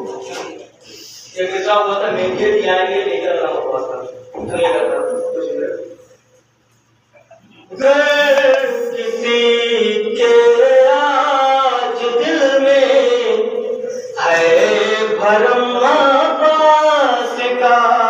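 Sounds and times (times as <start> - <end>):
man chanting melodically: 0.0 - 6.0, 7.5 - 18.0.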